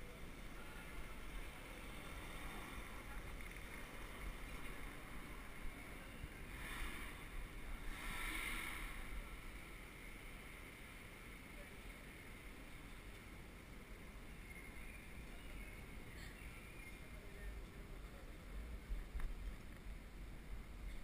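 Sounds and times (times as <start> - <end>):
street traffic noise: 0.0 - 21.0
wind rumbling on microphone: 0.2 - 21.0.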